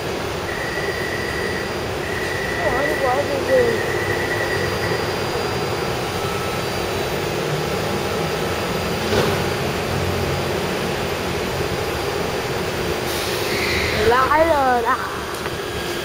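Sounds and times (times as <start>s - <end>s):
train wheels and motors rumbling: 0.0s - 16.0s.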